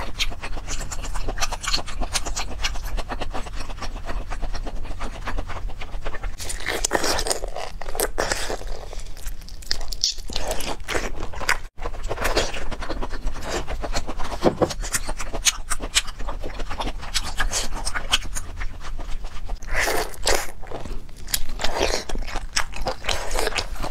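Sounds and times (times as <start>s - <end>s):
wet chewing clicks and smacks: 0.0s - 23.9s.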